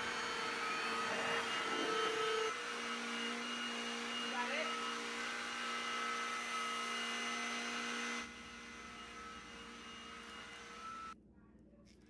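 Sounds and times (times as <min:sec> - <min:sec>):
stick vacuum motor whining: 0:00.0 - 0:11.2.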